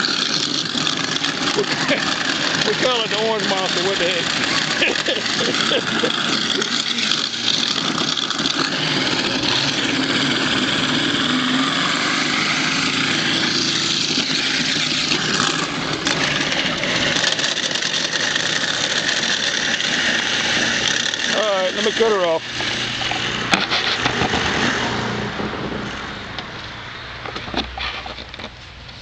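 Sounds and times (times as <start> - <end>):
garbage disposal grinding: 0.0 - 26.5
motor low hum: 0.0 - 29.0.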